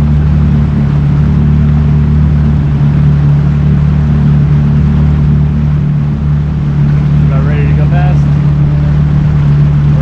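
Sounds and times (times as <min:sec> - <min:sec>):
jet ski engine droning: 0:00.0 - 0:10.0.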